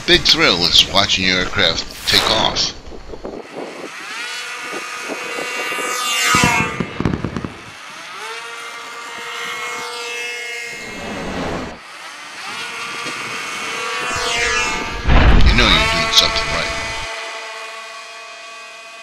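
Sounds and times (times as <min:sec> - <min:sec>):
model airplane flying past: 0:03.4 - 0:19.0.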